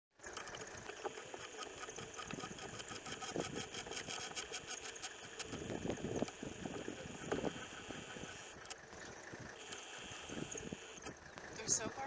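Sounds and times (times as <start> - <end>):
engine idling: 0.2 - 12.0
high-pitched ticks: 0.2 - 12.0.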